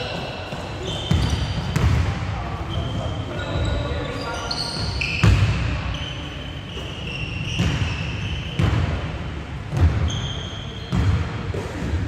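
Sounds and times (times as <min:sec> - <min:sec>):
sneakers squeaking: 0:00.0 - 0:12.0.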